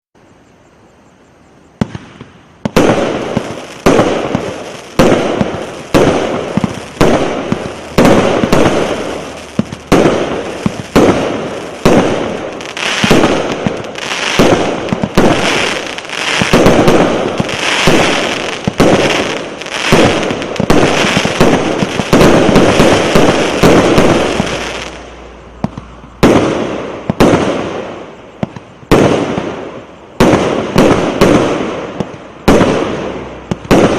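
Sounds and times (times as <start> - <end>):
fireworks reports and crackle: 1.8 - 33.9.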